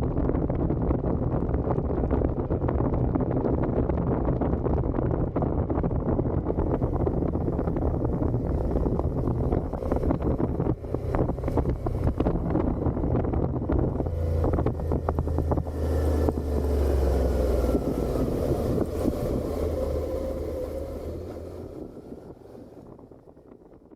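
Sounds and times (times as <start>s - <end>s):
motorcycle engine running: 0.0s - 23.8s
wind buffeting microphone: 0.0s - 23.9s.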